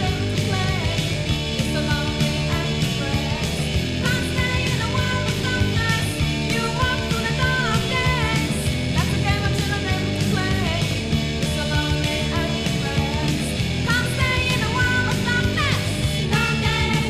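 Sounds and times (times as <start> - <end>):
noise pop rock band: 0.0 - 17.0.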